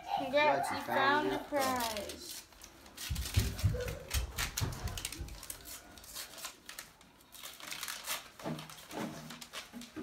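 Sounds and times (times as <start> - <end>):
paper rustling and crinkling: 0.9 - 10.0.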